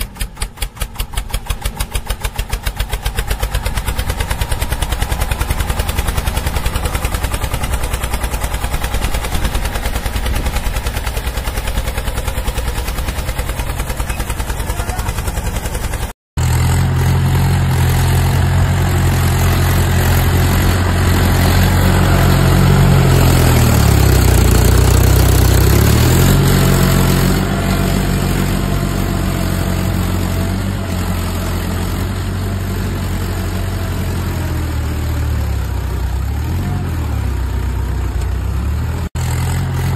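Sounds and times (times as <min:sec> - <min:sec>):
small engine chugging: 0:00.0 - 0:39.9
small engine running steadily: 0:00.0 - 0:39.9.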